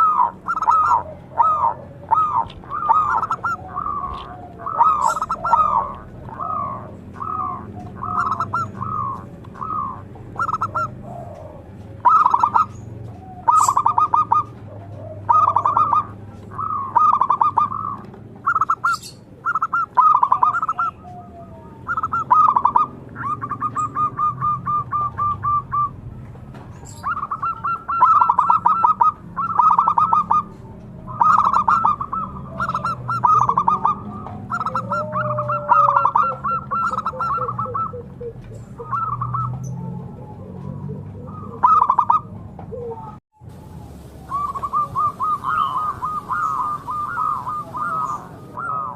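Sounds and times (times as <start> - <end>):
dove cooing: 0.0 - 48.9
dove trill: 0.0 - 48.9.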